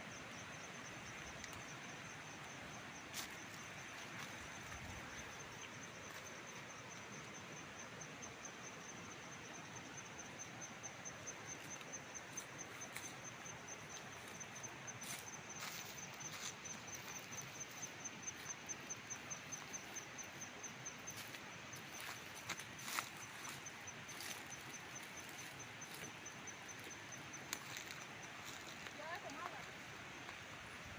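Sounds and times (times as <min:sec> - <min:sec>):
cricket chirping: 0:00.0 - 0:30.9
outdoor background hiss: 0:00.0 - 0:30.9.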